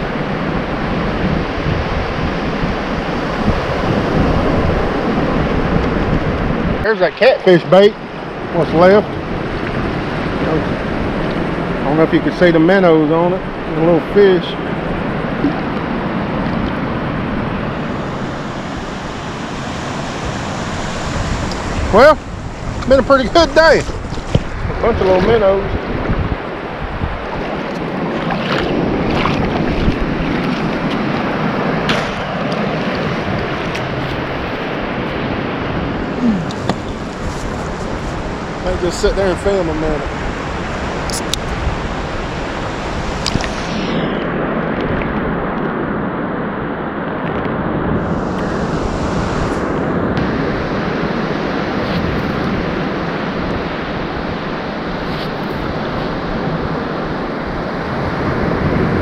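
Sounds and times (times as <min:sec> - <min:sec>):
wind buffeting microphone: 0:00.0 - 0:06.9, 0:07.5 - 0:59.0
breaking surf: 0:00.0 - 0:59.0.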